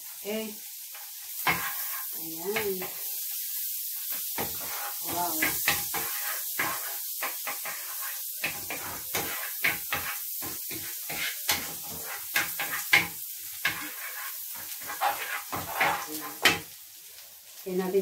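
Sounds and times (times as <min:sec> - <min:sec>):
garlic sizzling in butter: 0:00.0 - 0:18.0.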